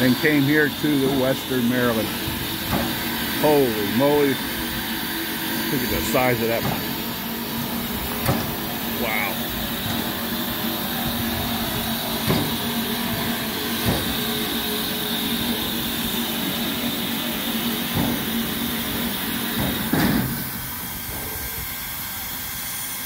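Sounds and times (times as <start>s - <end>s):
steam hissing: 0.0s - 23.0s.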